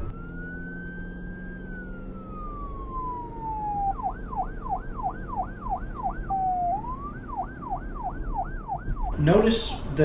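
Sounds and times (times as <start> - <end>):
electronic siren wailing and yelping: 0.0 - 10.0.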